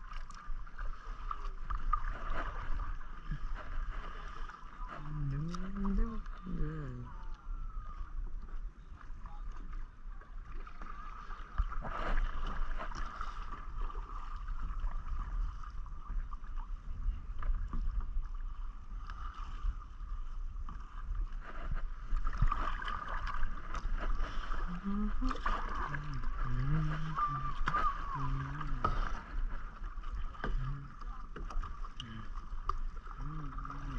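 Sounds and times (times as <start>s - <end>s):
paddle splashing water: 0.0s - 33.9s.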